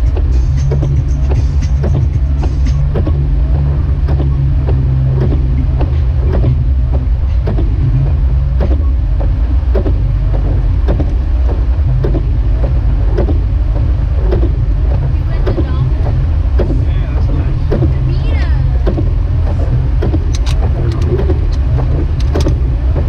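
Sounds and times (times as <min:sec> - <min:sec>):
low engine and road rumble: 0:00.0 - 0:23.0.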